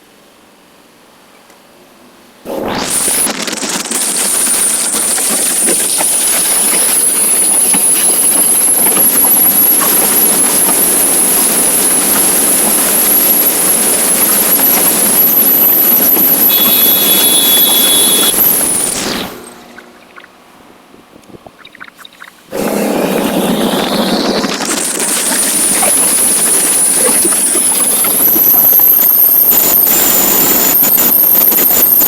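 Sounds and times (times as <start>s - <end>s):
steady high tone: 2.5s - 20.3s, 22.5s - 32.0s
thin high whine: 2.5s - 32.0s
wind and road noise: 2.9s - 31.6s.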